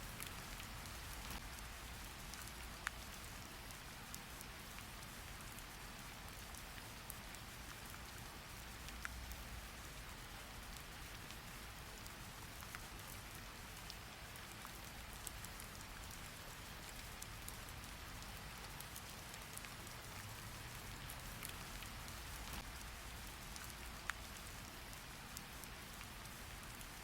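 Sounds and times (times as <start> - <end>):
drip-like ticks: 0.0 - 27.0
steady rainfall: 0.0 - 27.0.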